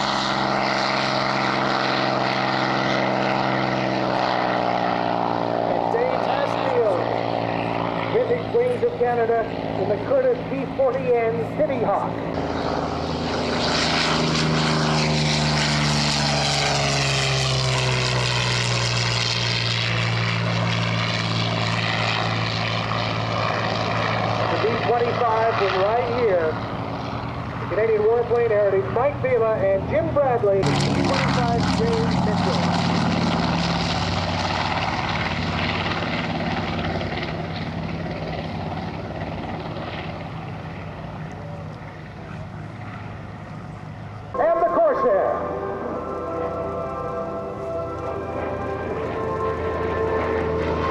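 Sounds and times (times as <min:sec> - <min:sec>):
propeller aircraft engine drone: 0:00.0 - 0:50.9.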